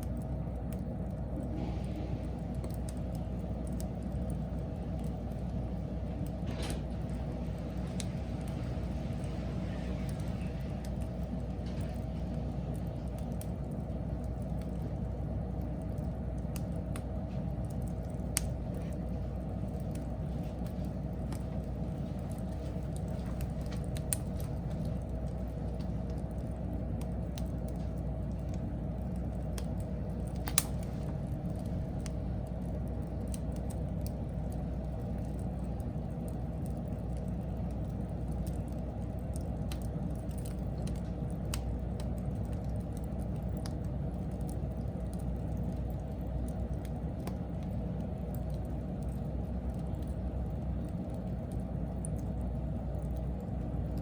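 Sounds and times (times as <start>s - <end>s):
fire crackling and popping: 0.0s - 54.0s
wood fire rumbling: 0.0s - 54.0s.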